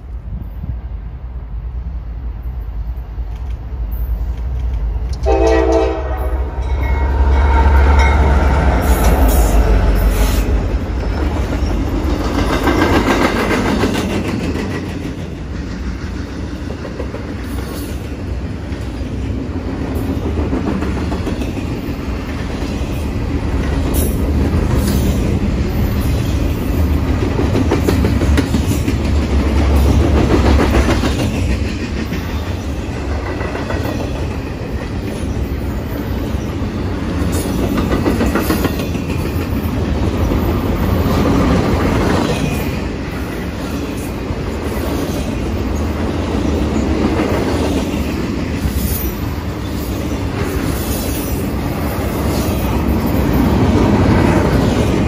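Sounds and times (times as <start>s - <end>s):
freight train rumbling past: 0.0s - 55.0s
wheels clacking over rail joints: 8.0s - 55.0s.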